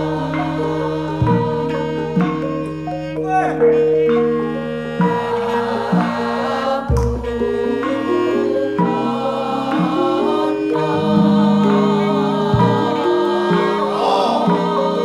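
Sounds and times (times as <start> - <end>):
metallophone notes: 0.0 - 15.0
voices singing: 0.0 - 15.0.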